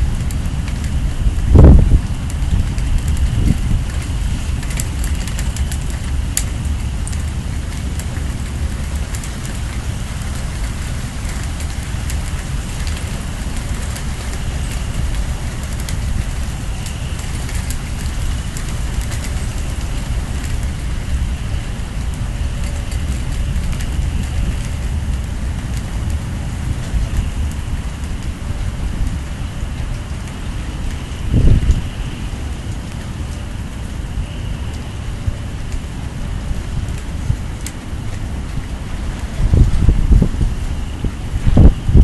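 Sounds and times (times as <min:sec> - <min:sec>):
rain pattering: 0:00.0 - 0:42.0
wind buffeting microphone: 0:00.0 - 0:42.0.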